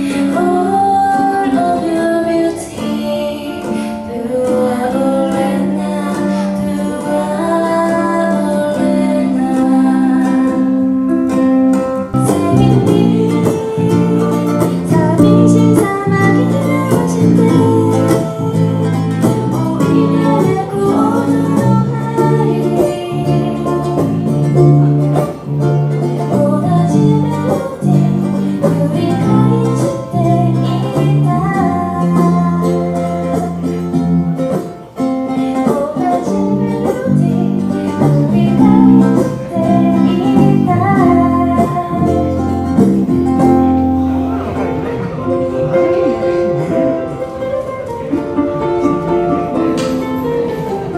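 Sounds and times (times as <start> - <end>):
plucked guitar music: 0.0 - 50.9.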